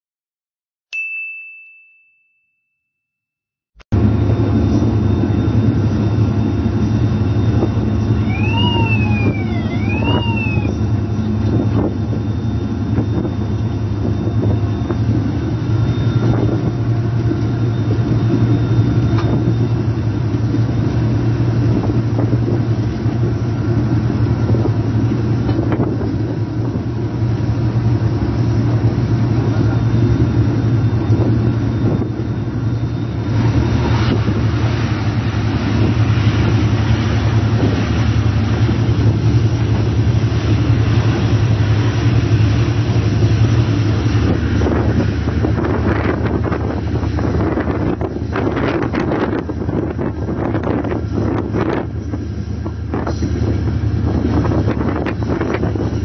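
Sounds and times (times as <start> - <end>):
diesel locomotive engine hum: 3.9 - 56.0
rushing of passing train: 4.0 - 56.0.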